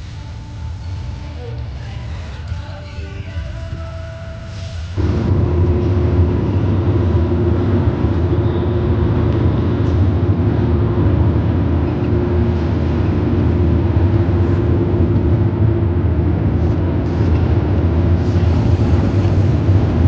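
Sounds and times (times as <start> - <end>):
road and engine noise in car: 0.0 - 20.0.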